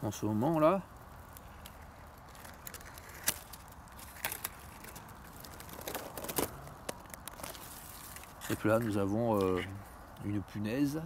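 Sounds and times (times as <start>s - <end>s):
dry grass crackling: 0.0s - 11.0s.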